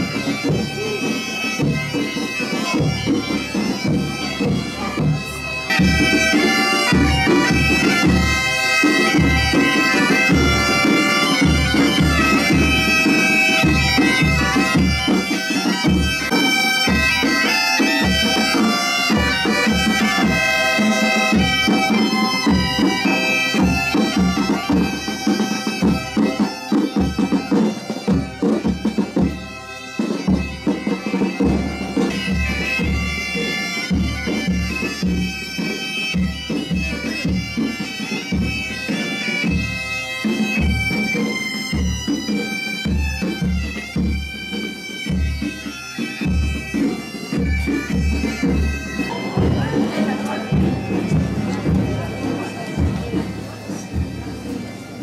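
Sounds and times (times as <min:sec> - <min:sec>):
bagpipes playing over drone: 0:00.0 - 0:55.0
snare drums: 0:00.0 - 0:55.0.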